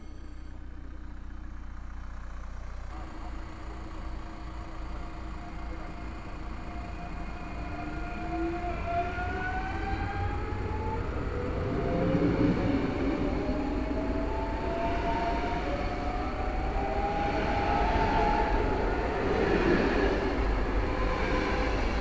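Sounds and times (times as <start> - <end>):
wheel and rail rumble: 0.0 - 22.0
electric train motors whining: 2.9 - 22.0.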